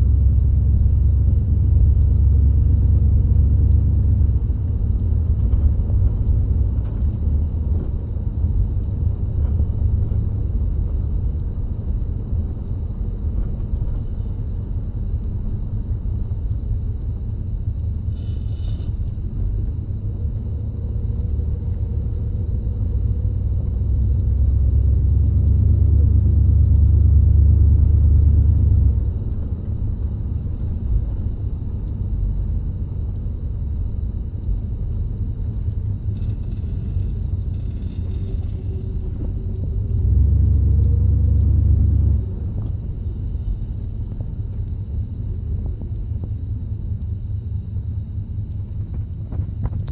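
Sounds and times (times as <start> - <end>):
car engine running: 0.0 - 49.9.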